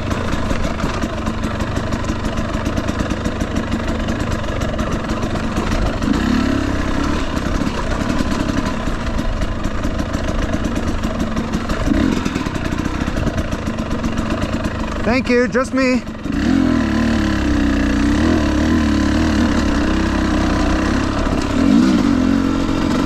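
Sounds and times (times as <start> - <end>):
two-stroke engine idling: 0.0 - 23.0.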